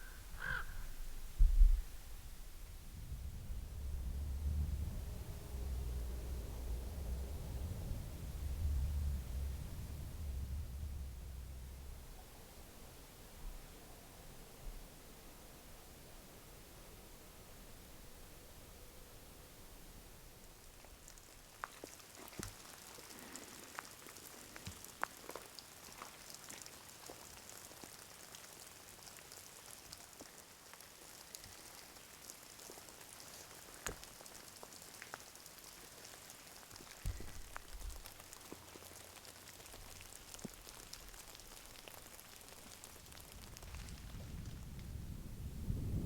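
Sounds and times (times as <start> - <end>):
light rain hiss: 0.0 - 46.0.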